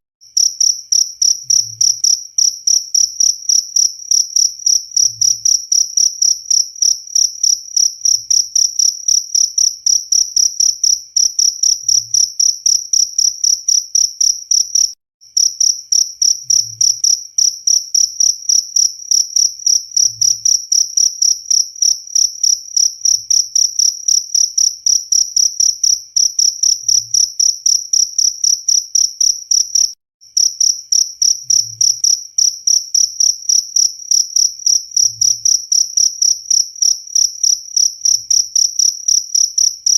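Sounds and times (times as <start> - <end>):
cricket chirping: 0.3 - 39.9.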